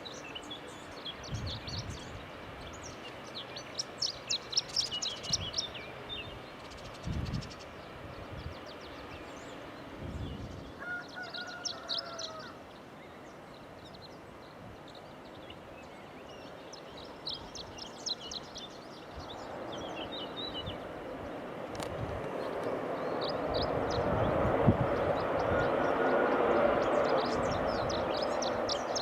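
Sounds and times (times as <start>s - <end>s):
aircraft engine: 0.0s - 29.0s
outdoor background noise: 0.0s - 29.0s
small birds chirping: 0.0s - 29.0s.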